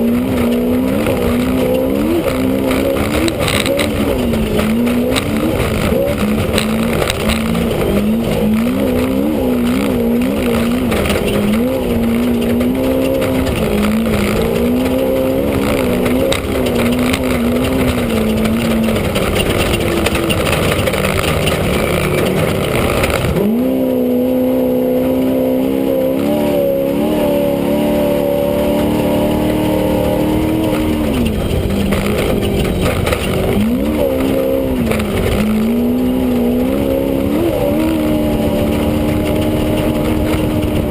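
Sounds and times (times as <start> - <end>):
engine revving: 0.0 - 40.9
rattle and road noise: 0.0 - 40.9.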